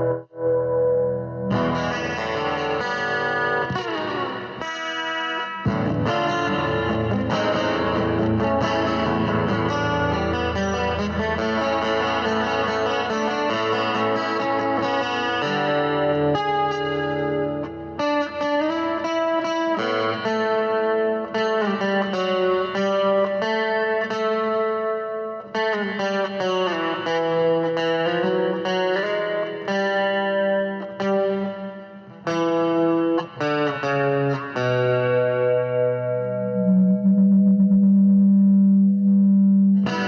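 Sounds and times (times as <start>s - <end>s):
electric guitar with effects: 0.0s - 40.0s.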